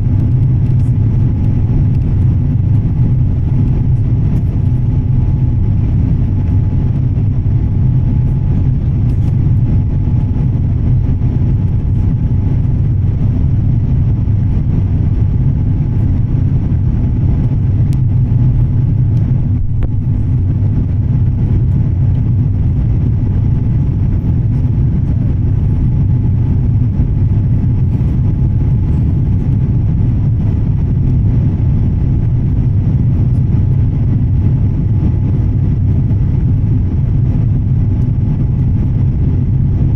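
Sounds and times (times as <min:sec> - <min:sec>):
aircraft engine rumble and airflow: 0:00.0 - 0:39.9
faint steady whine: 0:00.0 - 0:39.9.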